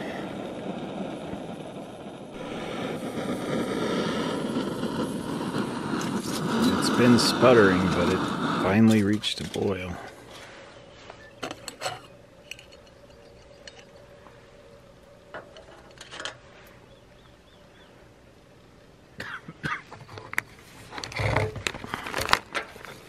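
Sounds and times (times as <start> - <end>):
camping stove hum: 0.0 - 23.0.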